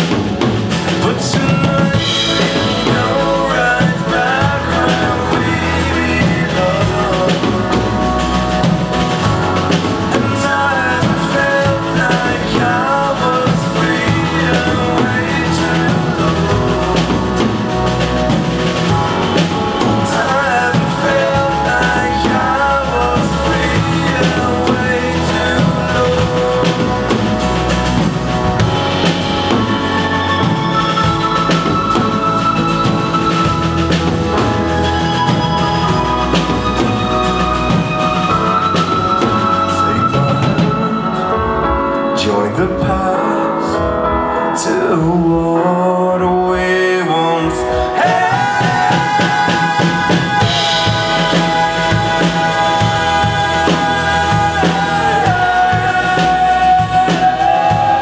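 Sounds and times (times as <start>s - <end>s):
acoustic guitar: 0.0s - 58.0s
drum kit: 0.0s - 58.0s
keyboard: 0.0s - 58.0s
person singing lead vocal: 0.0s - 58.0s.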